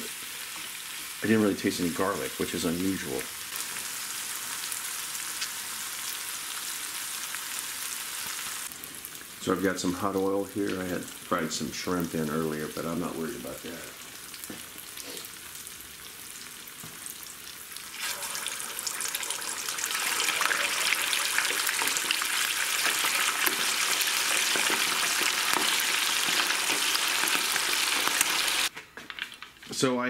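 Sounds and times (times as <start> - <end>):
frying oil hissing: 0.0 - 28.7
chicken wings crackling in oil: 0.0 - 29.6.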